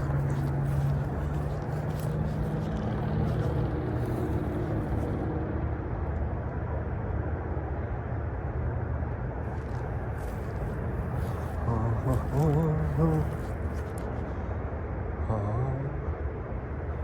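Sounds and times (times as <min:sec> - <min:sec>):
faint low hum: 0:00.0 - 0:17.0
low motor drone: 0:00.0 - 0:17.0.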